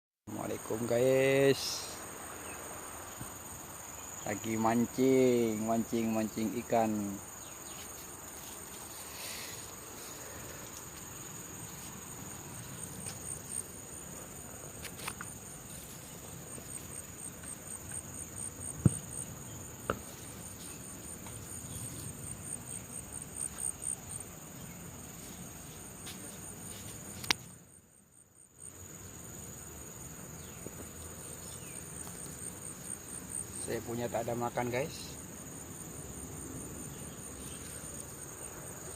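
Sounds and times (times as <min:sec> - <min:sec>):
insects trilling: 0:00.3 - 0:38.9.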